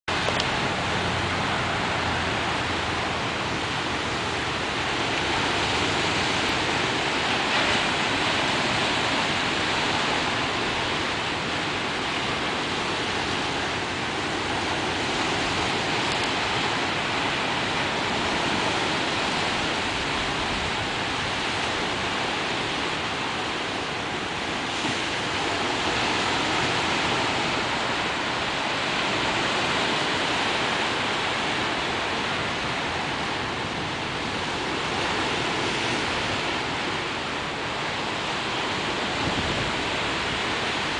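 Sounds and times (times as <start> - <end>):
surf breaking over rocks: 0.1 - 40.9.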